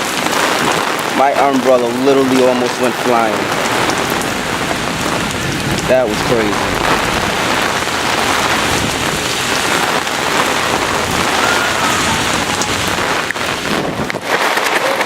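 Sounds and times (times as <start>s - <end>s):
rain pattering on an umbrella: 0.0s - 15.0s
wind rumbling on microphone: 0.0s - 15.0s.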